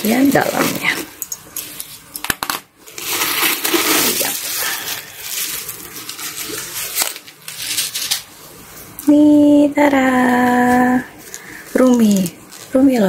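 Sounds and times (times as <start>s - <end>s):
plastic packing rustling: 0.0s - 9.0s, 10.2s - 13.0s.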